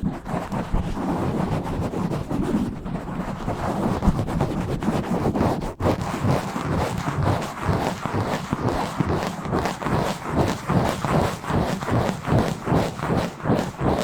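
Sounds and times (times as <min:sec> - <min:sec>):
fingers scratching a microphone: 0:00.0 - 0:14.0.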